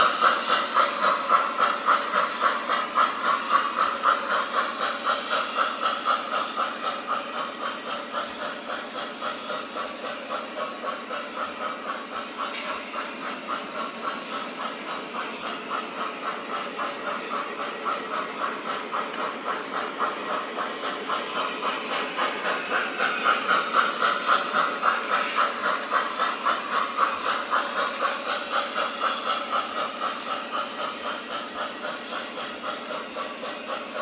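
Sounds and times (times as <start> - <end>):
steam locomotive chuffing with hiss: 0.0 - 34.0.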